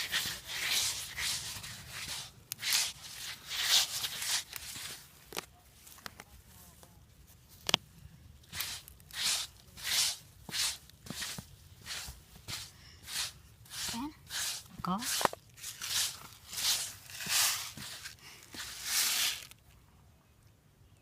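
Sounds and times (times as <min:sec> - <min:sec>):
rough scraping and rustling strokes: 0:00.0 - 0:07.8, 0:08.4 - 0:19.6.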